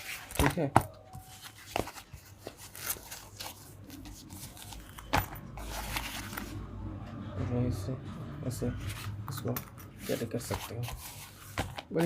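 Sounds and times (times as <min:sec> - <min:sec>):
rustling of a document organizer: 0:00.0 - 0:06.6, 0:08.8 - 0:12.0.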